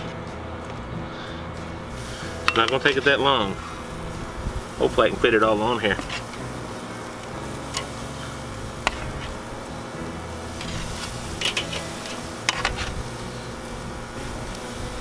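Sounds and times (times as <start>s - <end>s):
steady low hum: 0.0s - 15.0s
metallic clicks on grill grate: 1.4s - 15.0s.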